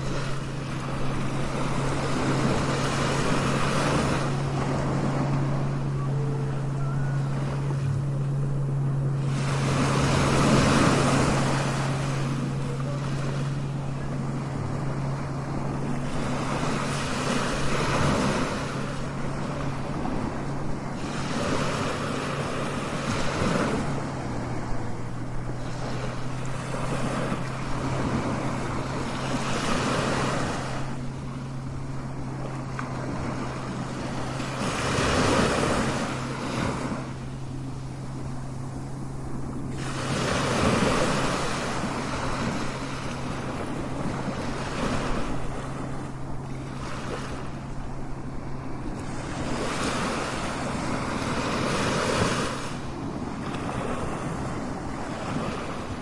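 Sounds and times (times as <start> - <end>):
low hum: 0.0 - 56.0
ocean waves breaking: 0.0 - 56.0.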